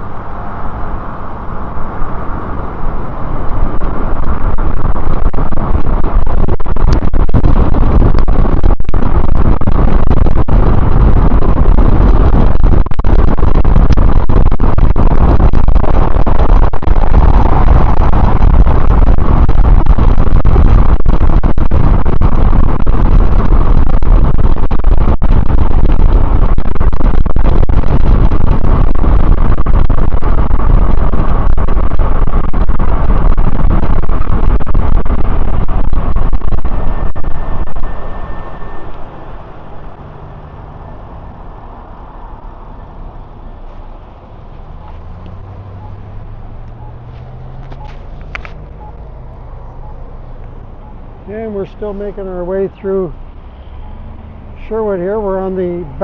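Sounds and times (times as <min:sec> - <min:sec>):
traffic noise: 0:00.0 - 0:56.0
wind buffeting microphone: 0:00.0 - 0:56.0.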